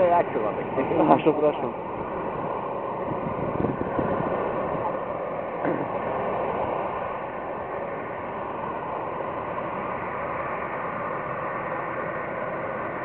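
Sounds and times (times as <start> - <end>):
jet engines taxiing: 0.0 - 13.0.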